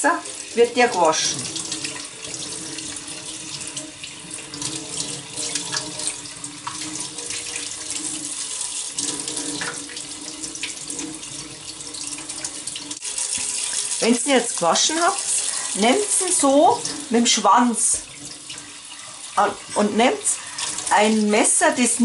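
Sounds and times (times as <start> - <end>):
tap water running into sink: 0.0 - 22.0.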